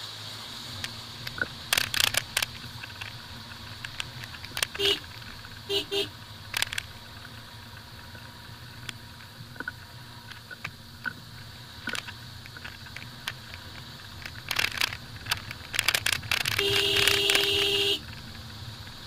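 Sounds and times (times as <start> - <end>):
car rumbling over gravel road: 0.0 - 19.0.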